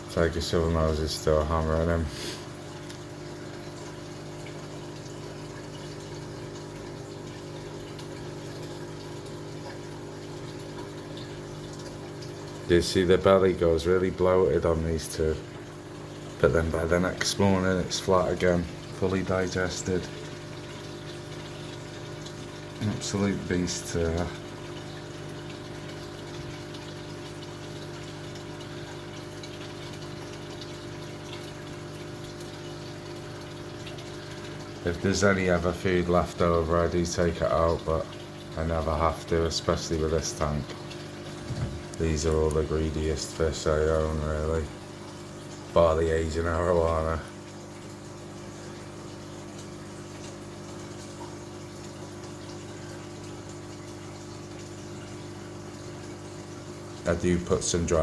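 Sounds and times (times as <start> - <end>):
pump hum: 0.0 - 58.0
water rushing and trickling: 0.0 - 58.0.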